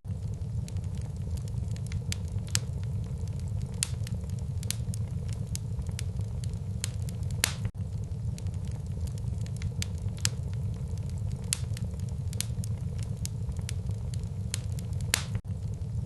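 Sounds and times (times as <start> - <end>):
low rumble of flames: 0.0 - 16.0
burning wood crackling and popping: 0.1 - 16.0.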